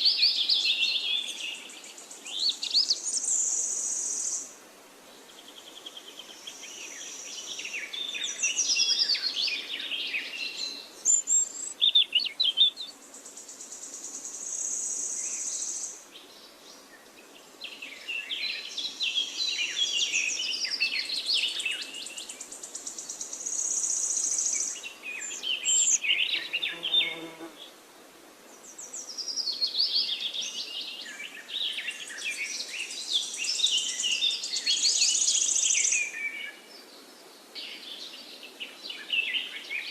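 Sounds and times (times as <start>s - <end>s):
songbirds chirping and warbling: 0.0s - 27.8s, 28.4s - 39.9s.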